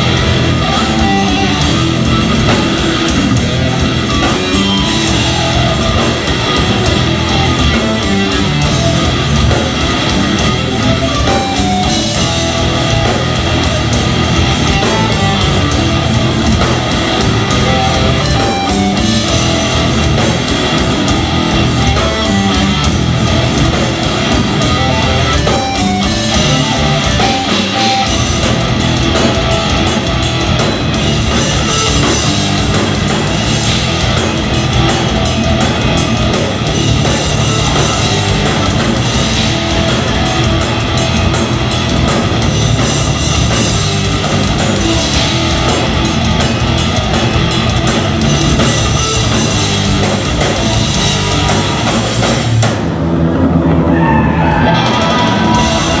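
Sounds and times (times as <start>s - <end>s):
drums and cymbals run: 0.0s - 56.0s
metal band playing live: 0.0s - 56.0s.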